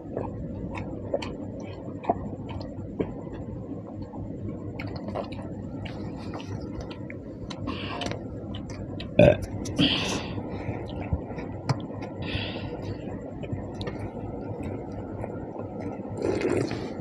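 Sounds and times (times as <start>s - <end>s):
wet chewing and squishing: 0.0s - 9.8s, 10.7s - 12.2s, 12.8s - 17.0s.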